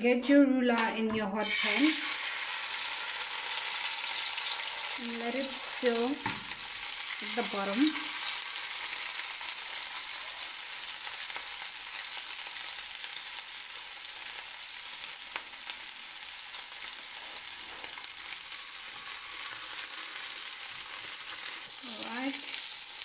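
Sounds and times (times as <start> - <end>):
meat sizzling in frying pan: 1.4 - 23.0.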